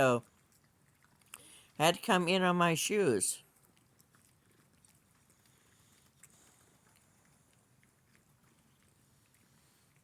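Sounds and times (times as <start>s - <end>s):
cats chewing food: 0.0s - 10.0s.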